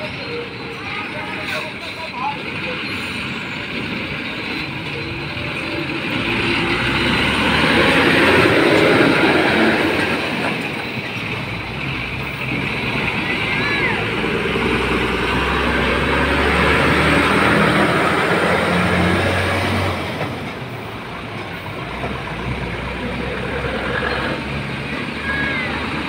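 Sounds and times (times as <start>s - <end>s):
road traffic noise: 0.0s - 26.0s
heavy vehicle passing: 1.0s - 26.0s.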